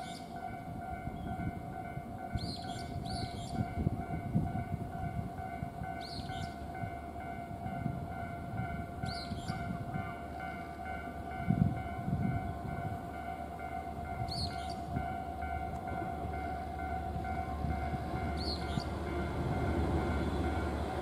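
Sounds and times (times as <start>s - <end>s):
diesel railcar rumble: 0.0s - 21.0s
level-crossing warning bell: 0.0s - 21.0s.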